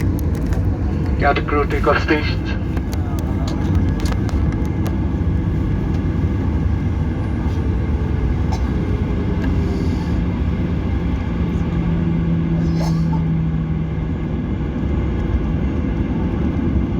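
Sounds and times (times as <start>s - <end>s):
airliner engines and wheels rumbling: 0.0s - 16.9s
engine hum: 0.0s - 16.9s.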